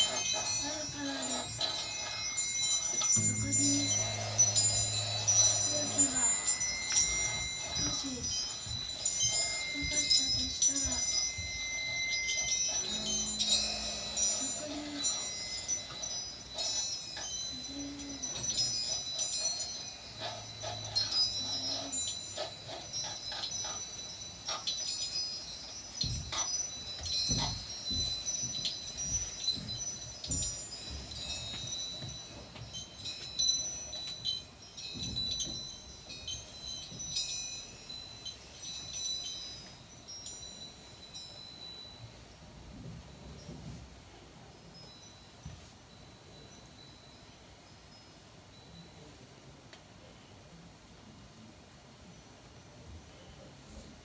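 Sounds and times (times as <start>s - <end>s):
chime-like metallic tinkling: 0.0s - 50.4s.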